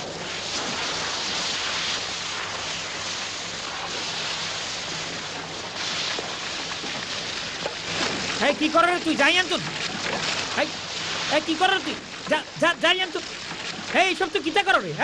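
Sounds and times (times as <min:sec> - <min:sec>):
water gushing into a boat: 0:00.0 - 0:15.0.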